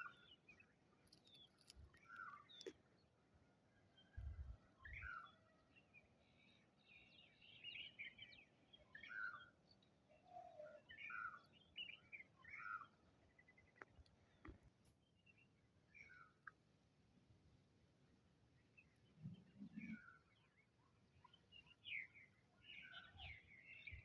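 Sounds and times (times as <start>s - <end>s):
small birds chirping: 0.0s - 3.2s, 3.9s - 16.6s, 18.6s - 24.0s.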